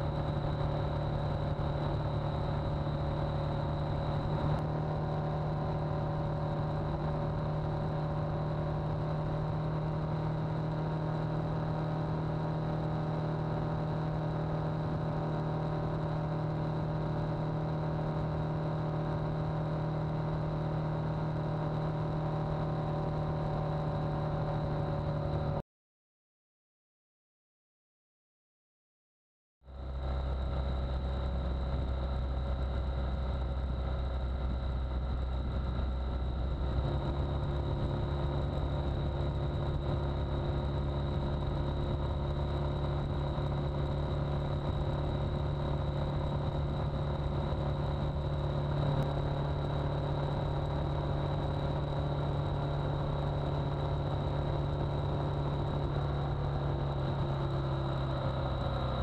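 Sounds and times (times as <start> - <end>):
motorcycle engine running: 0.0 - 25.6, 29.7 - 59.0.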